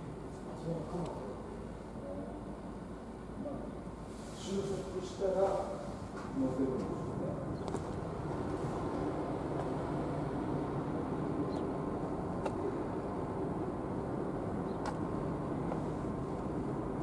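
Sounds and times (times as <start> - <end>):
low mechanical hum of idling engines: 0.0 - 17.0.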